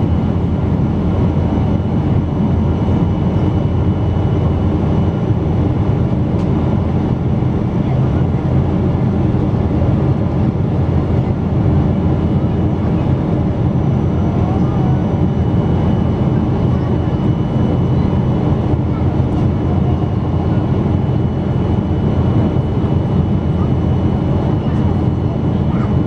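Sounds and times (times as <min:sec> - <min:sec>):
aircraft engines droning: 0:00.0 - 0:26.0.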